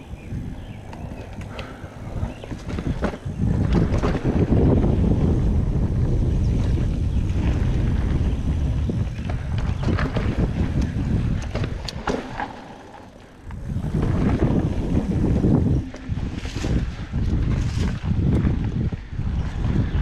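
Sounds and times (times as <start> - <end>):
wind buffeting microphone: 0.0 - 12.7, 13.4 - 20.0
bike tyres on dirt trail: 0.0 - 20.0
bike clicks and rattles: 0.3 - 20.0.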